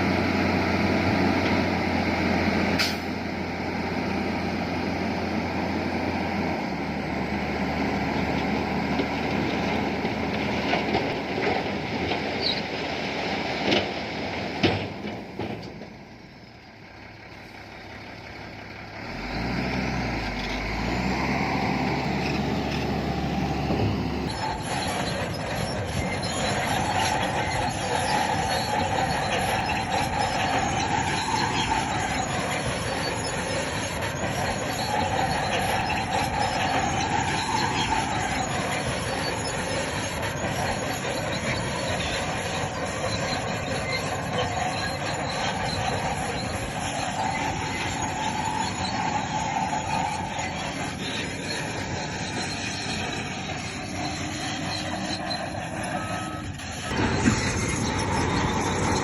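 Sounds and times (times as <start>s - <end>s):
diesel engine running: 0.0s - 59.0s
steel tracks clanking and squealing: 0.0s - 59.0s.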